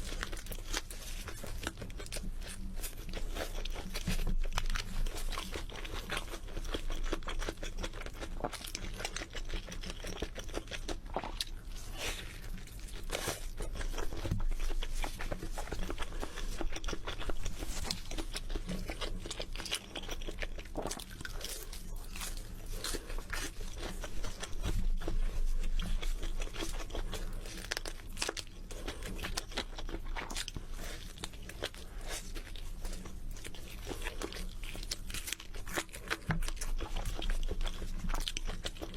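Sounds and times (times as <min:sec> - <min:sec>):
crispy chicken crunching: 0:00.0 - 0:38.9.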